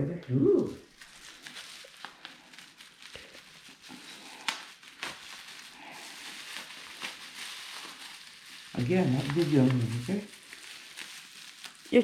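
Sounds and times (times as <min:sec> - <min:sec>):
soft rustle: 0:00.8 - 0:12.0.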